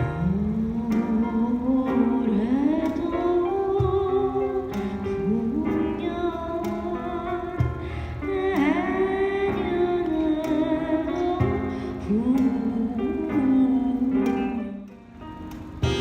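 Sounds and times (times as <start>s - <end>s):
person singing: 0.0s - 15.0s
plucked guitar: 0.0s - 16.0s.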